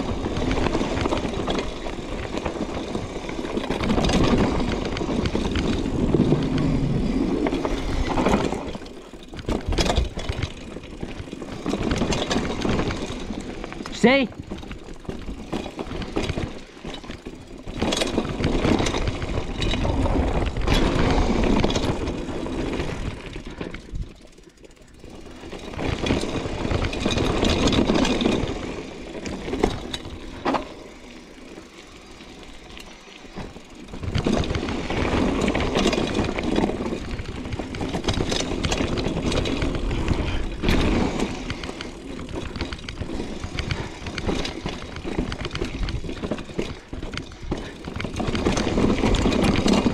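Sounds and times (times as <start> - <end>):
bike rattling over rough ground: 0.0 - 49.9
bike tyres and air rushing: 0.0 - 49.9.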